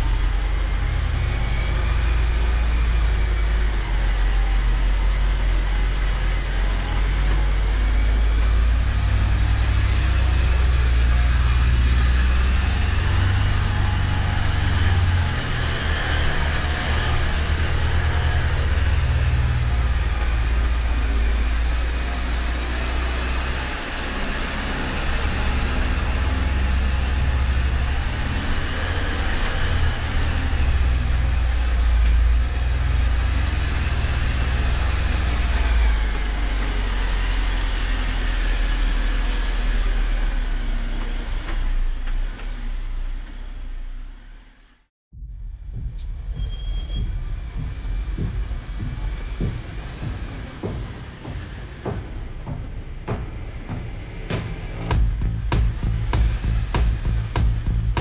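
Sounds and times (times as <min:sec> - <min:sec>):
car engine low rumble: 0:00.0 - 0:58.0.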